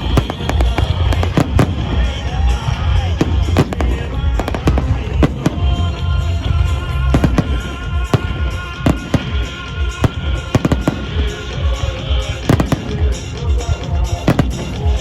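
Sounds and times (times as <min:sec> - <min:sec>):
fireworks bangs: 0:00.0 - 0:15.0
loud music with heavy bass: 0:00.0 - 0:15.0.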